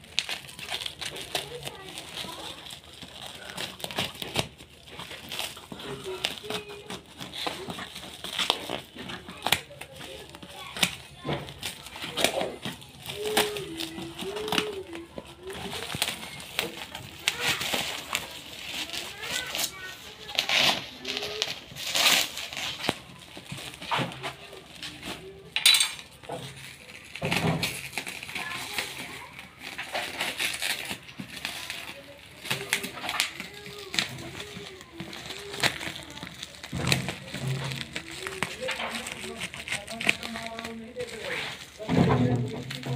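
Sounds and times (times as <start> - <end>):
plastic packaging crinkling: 0.0 - 42.9.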